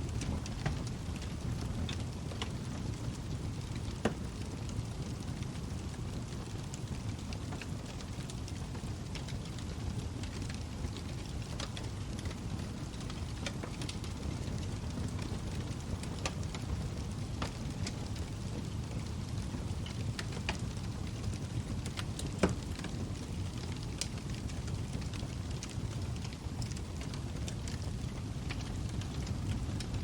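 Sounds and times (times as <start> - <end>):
fire flames rumbling: 0.0 - 30.0
wood fire crackling and popping: 0.0 - 30.0.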